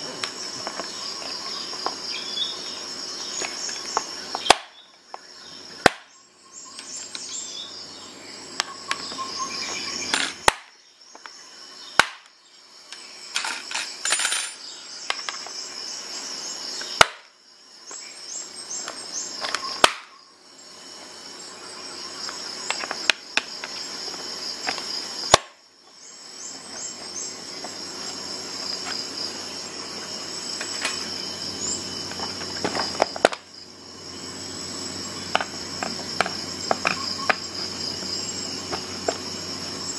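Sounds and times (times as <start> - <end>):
high-pitched insect chirping: 0.0 - 39.9.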